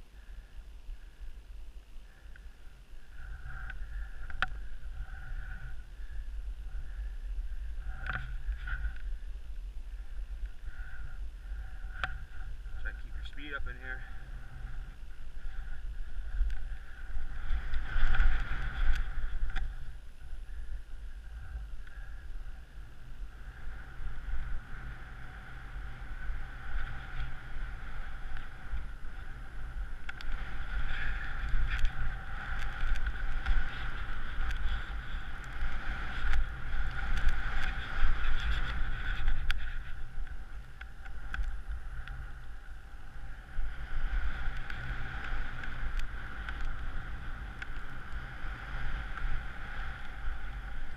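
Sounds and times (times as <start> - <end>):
wind buffeting microphone: 0.7 - 50.9.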